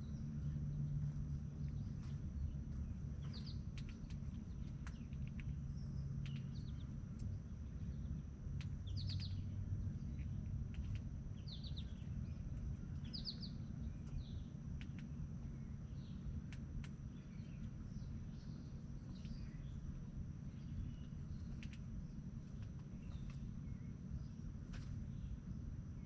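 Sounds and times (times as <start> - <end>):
low background rumble: 0.0 - 26.0
small birds chirping: 0.0 - 26.0.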